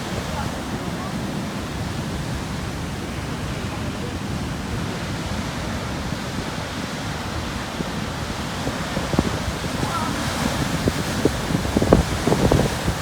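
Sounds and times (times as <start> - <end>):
surf breaking on rocky shore: 0.0 - 13.0.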